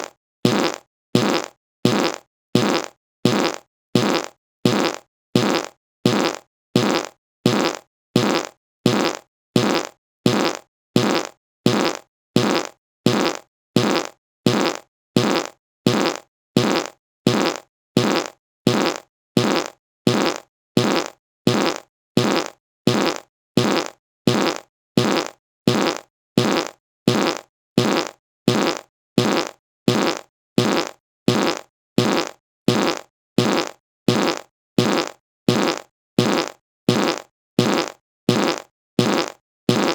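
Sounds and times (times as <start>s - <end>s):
fart sound: 0.0s - 39.9s.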